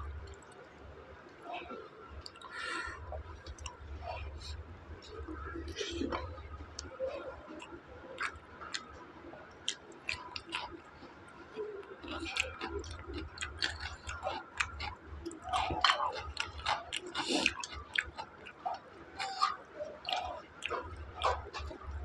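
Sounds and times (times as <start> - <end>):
man chewing food: 1.3 - 22.0.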